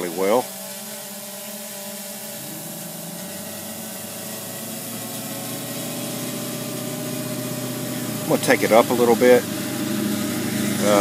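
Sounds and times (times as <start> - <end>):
quadcopter hovering hum: 0.0 - 11.0.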